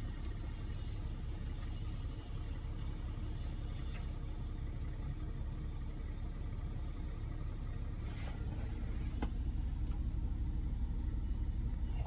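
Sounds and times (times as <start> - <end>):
low rumble inside car cabin: 0.0 - 12.0.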